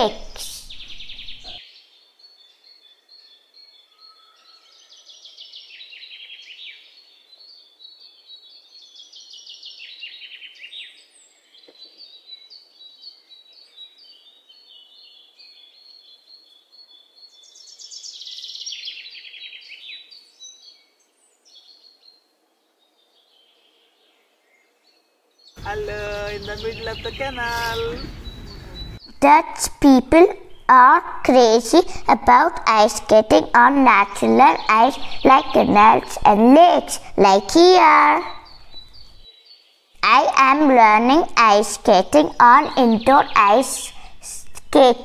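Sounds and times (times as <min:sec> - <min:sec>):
songbirds trilling: 0:00.0 - 0:01.6, 0:03.0 - 0:45.0
quiet bird chirping: 0:00.0 - 0:29.4, 0:30.0 - 0:44.2.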